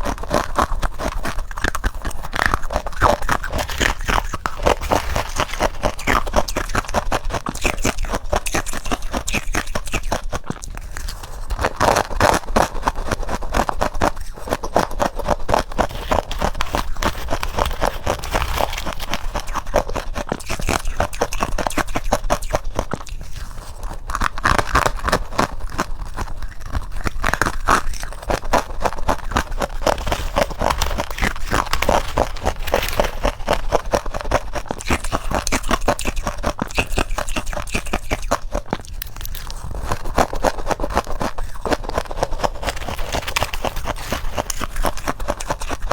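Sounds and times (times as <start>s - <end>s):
person chewing frost crunching: 0.0s - 45.9s.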